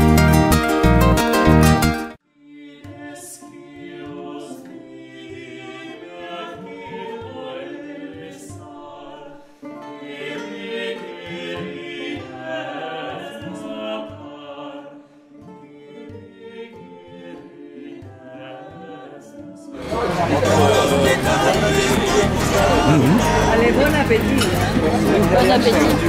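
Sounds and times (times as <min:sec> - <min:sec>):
choir singing: 0:02.4 - 0:26.0.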